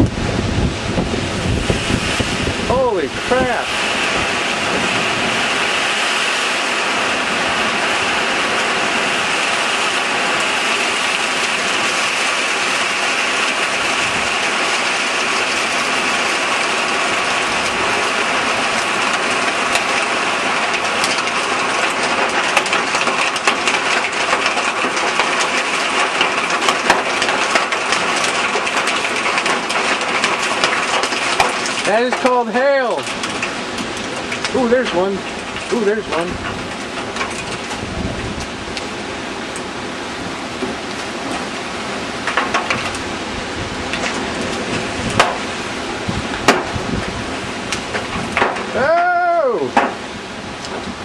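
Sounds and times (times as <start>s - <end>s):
heavy rain falling: 0.0s - 51.0s
hailstones striking hard surfaces: 7.0s - 39.7s, 40.5s - 51.0s.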